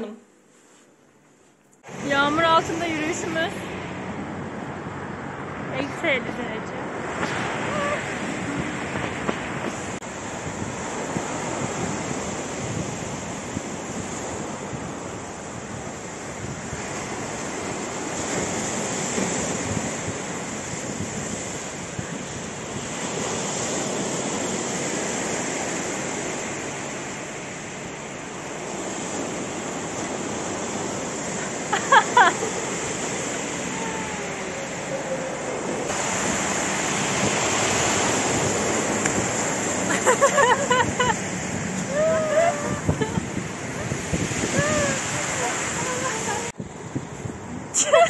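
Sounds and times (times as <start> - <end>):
wind on microphone: 1.8 - 48.0
surf breaking on rocky shore: 6.9 - 48.0.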